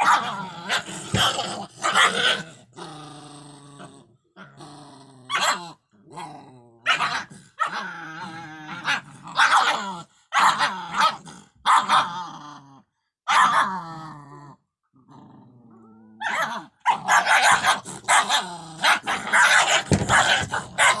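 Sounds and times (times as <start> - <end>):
puppies growling and barking: 0.0 - 21.0.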